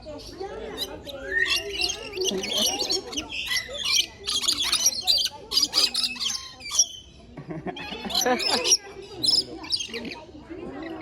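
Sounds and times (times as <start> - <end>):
birds squawking and chirping: 0.0 - 11.0.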